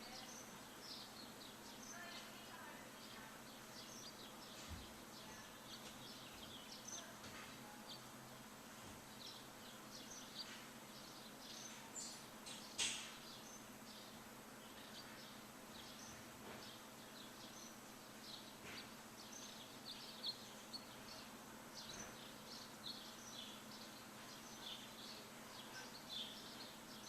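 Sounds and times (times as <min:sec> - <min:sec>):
faint steady background hiss: 0:00.0 - 0:27.0
small birds chirping: 0:00.0 - 0:27.0.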